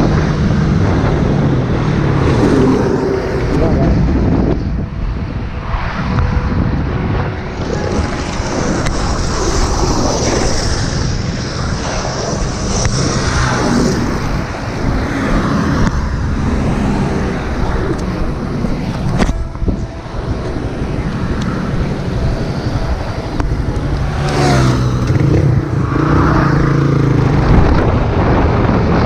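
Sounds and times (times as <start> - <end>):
engine and road noise rumble: 0.0 - 29.0
wind rushing over microphone: 0.0 - 29.0.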